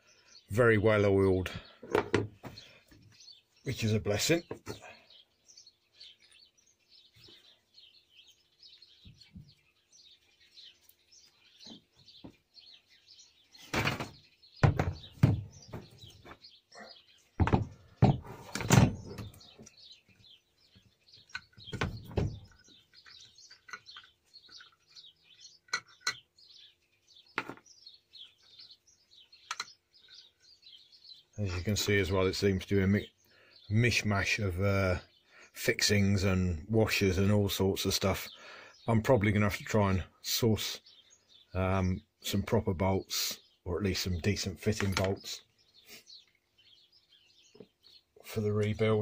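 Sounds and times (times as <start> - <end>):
faint birds chirping: 0.0 - 49.0.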